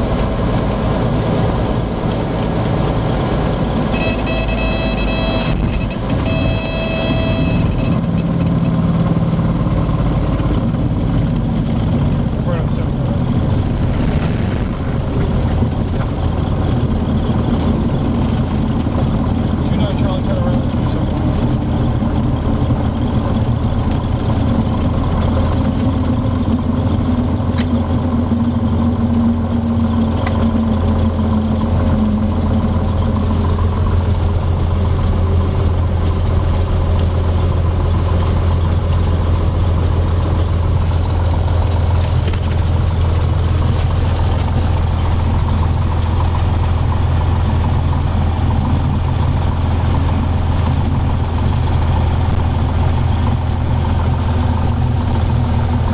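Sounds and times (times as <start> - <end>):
higher engine tone: 0.0 - 55.9
propeller plane engine drone: 0.0 - 55.9.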